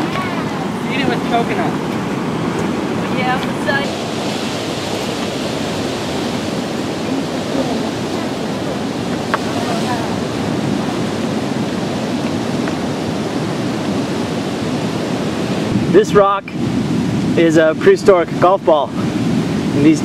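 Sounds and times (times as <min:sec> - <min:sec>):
surf breaking on rocks: 0:00.0 - 0:20.0
wind on microphone: 0:00.0 - 0:20.0.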